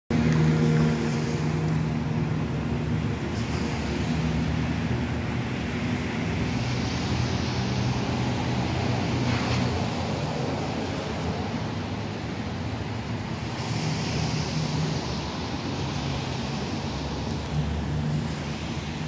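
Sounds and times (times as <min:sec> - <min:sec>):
rain hissing: 0:00.1 - 0:11.9, 0:12.6 - 0:19.0
vehicle engine humming: 0:00.1 - 0:19.0.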